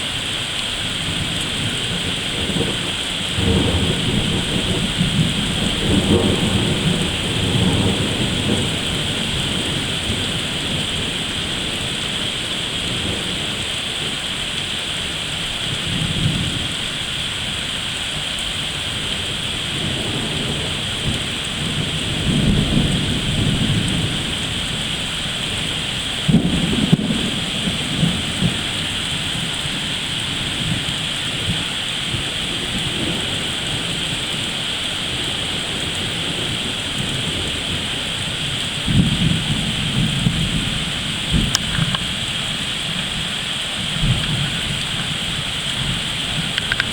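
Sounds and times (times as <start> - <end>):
rain hissing: 0.0 - 46.9
thunder rumbling: 0.0 - 46.9.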